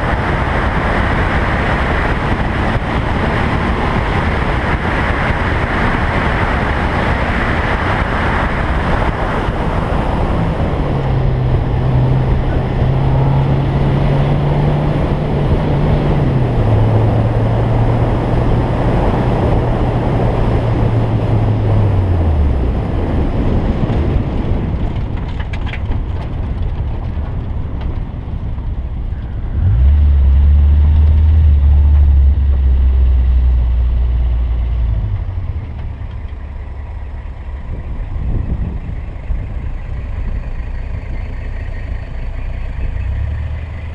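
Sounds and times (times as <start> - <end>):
car engine: 0.0 - 43.9
low engine idling drone: 0.0 - 43.9
wind rushing over microphone: 0.0 - 43.9.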